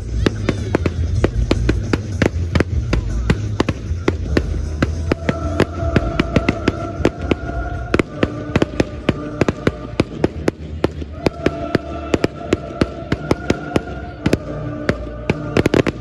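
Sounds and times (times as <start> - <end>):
fireworks bangs and cracks: 0.0 - 16.0
music playing: 0.0 - 16.0.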